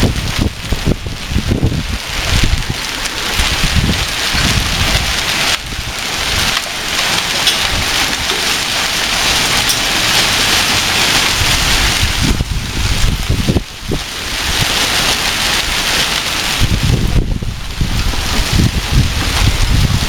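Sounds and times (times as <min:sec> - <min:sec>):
heavy rain and hail pelting: 0:00.0 - 0:20.0
wind buffeting microphone: 0:00.0 - 0:20.0.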